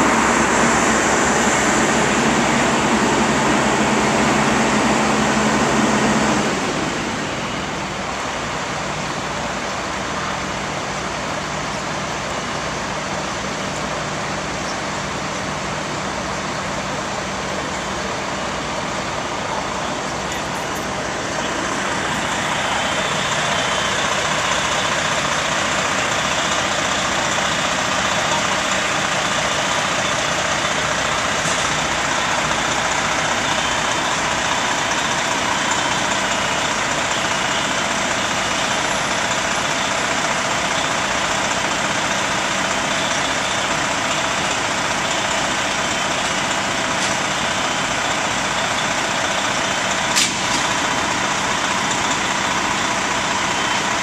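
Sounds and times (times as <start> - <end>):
fire truck engine running: 0.0 - 54.0.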